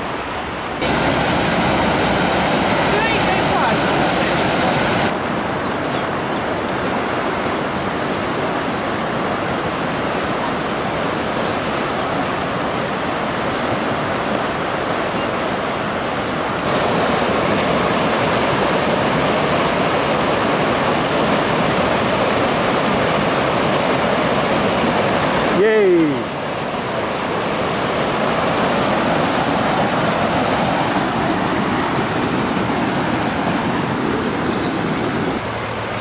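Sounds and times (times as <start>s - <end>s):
whitewater rushing: 0.0s - 36.0s.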